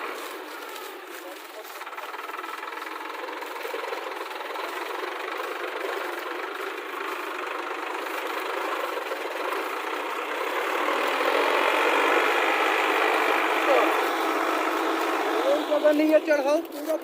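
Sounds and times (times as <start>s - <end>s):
diesel engine of heavy machinery: 0.0s - 17.0s.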